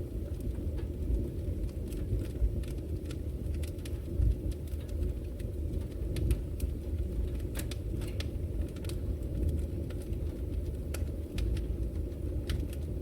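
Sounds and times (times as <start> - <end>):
burning wood crackling: 0.0 - 13.0
fire rumbling: 0.0 - 13.0.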